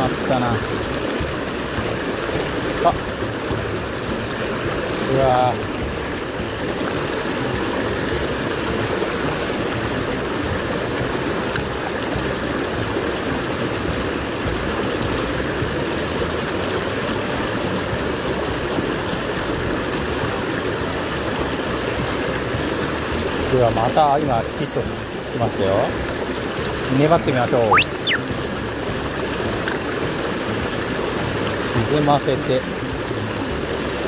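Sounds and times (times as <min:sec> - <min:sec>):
creek splashing over rocks: 0:00.0 - 0:34.0.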